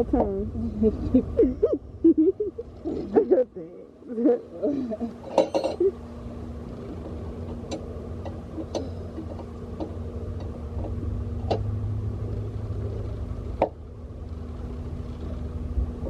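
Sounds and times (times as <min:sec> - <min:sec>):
low vehicle rumble and hum: 0:00.0 - 0:16.0.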